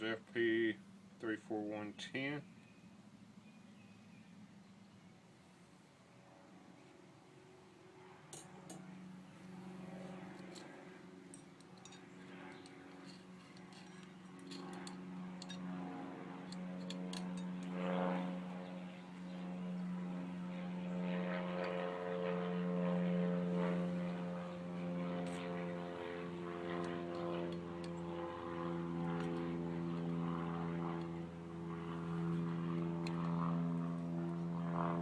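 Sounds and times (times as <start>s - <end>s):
distant engine droning: 0.0s - 35.0s.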